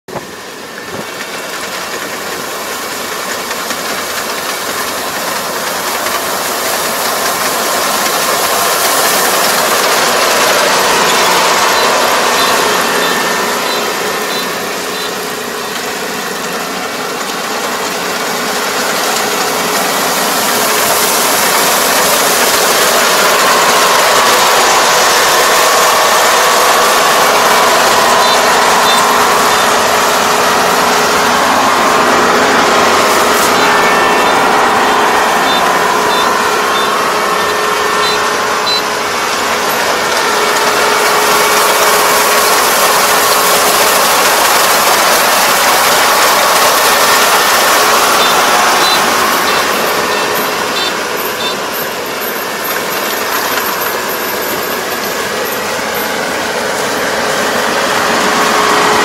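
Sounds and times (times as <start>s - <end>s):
combine harvester running under load: 0.0s - 59.0s.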